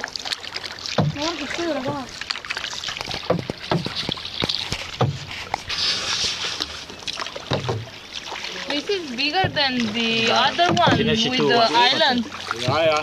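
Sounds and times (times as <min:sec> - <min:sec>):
paddles splashing in water: 0:00.0 - 0:13.0
paddle knocks: 0:00.9 - 0:13.0.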